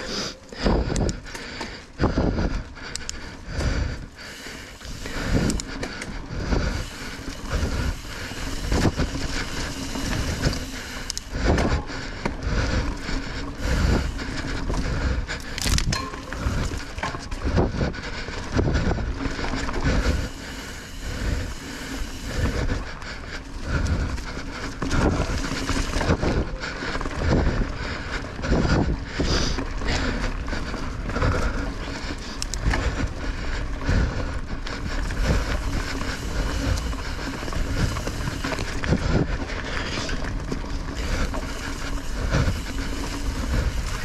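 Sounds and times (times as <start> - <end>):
bike rattling and thumping: 0.0 - 44.0
bike tyres rumbling on dirt: 0.0 - 44.0.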